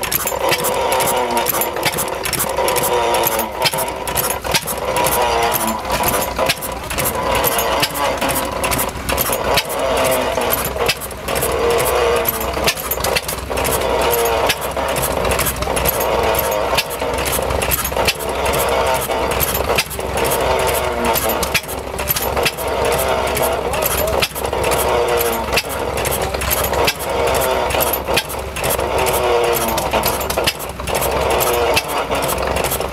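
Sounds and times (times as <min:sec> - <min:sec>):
gas engine knocking: 0:00.0 - 0:32.9.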